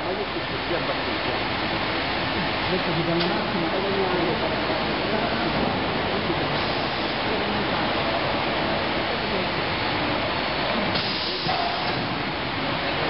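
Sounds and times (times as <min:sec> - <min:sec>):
conveyor machinery hissing: 0:00.0 - 0:13.0.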